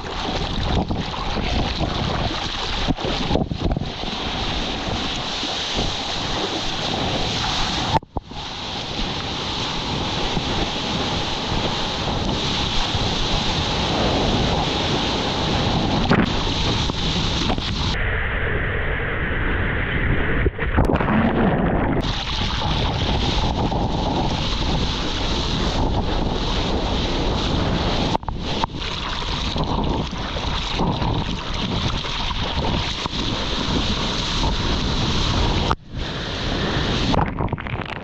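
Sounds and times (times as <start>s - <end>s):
seawater rushing and splashing: 0.0s - 18.0s, 20.5s - 38.0s
wind buffeting microphone: 0.0s - 38.0s.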